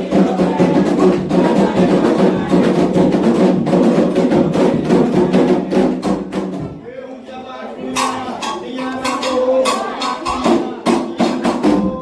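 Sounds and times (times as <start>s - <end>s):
hand drums playing: 0.0s - 6.8s, 7.9s - 12.0s.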